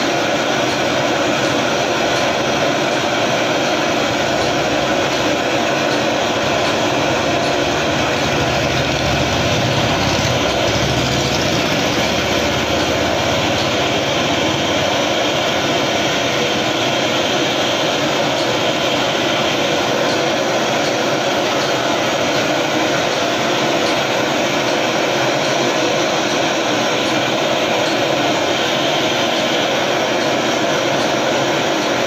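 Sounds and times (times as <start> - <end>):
gas burner flame hissing: 0.0 - 32.0.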